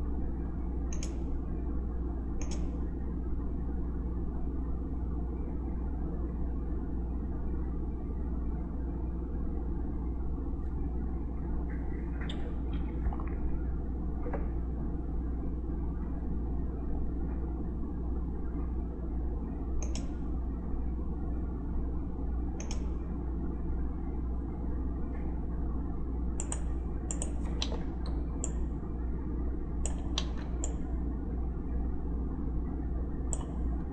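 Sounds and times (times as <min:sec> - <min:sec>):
low background rumble and hum: 0:00.0 - 0:33.9.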